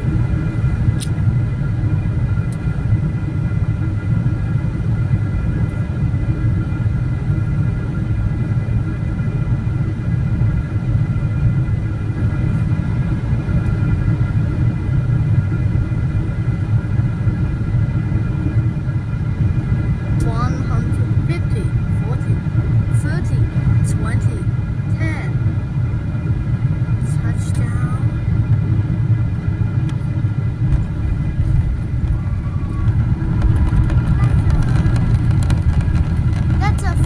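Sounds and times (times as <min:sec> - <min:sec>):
airplane cabin rumble: 0:00.0 - 0:37.0
faint hum of tones: 0:00.0 - 0:37.0.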